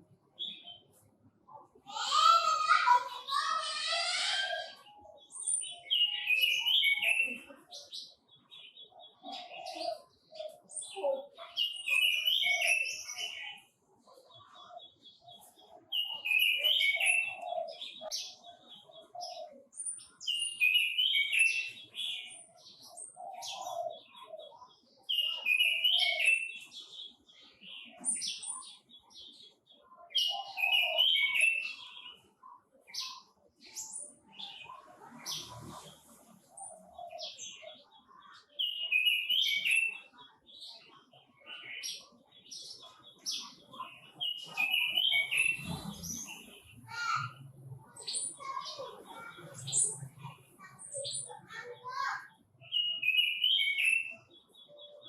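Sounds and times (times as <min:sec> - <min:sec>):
bird chirps: 0:00.0 - 0:55.0.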